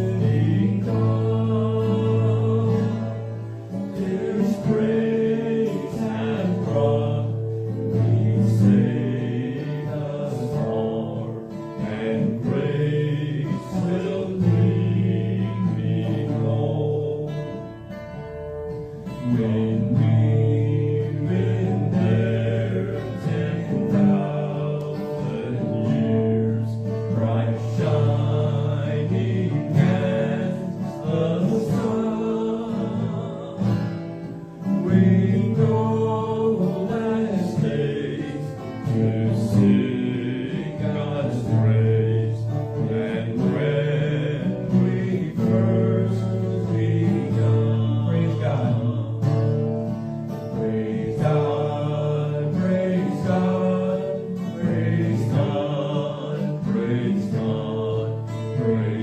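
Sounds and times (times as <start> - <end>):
group singing a hymn: 0.0 - 59.0
guitar accompaniment: 0.0 - 59.0.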